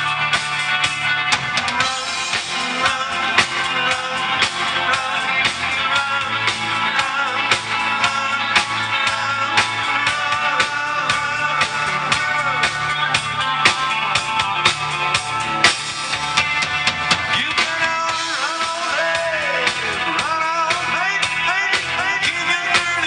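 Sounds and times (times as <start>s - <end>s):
drum kit beat: 0.0s - 23.0s
lead guitar line bending: 0.0s - 23.0s
live rock band playing: 0.0s - 23.0s.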